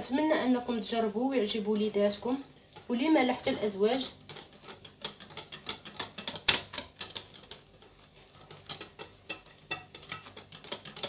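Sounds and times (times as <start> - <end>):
utensil stirring batter in bowl: 0.0 - 11.0.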